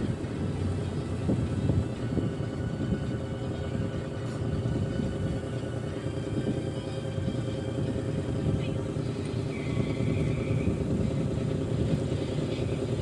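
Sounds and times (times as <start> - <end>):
diesel engines rumbling: 0.0 - 13.0.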